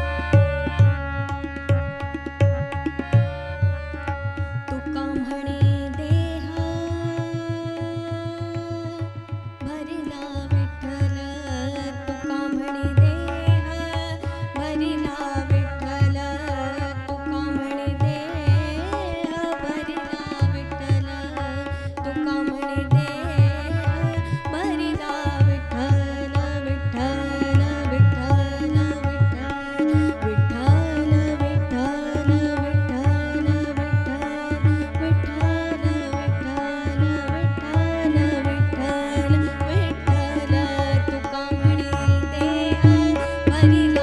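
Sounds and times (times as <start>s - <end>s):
tabla beat: 0.0s - 44.0s.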